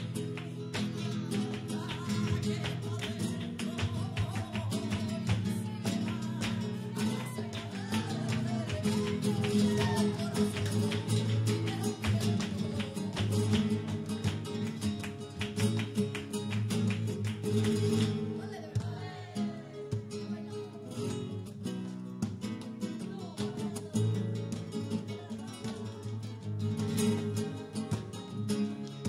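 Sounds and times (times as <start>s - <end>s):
flamenco guitar strumming: 0.0s - 29.0s.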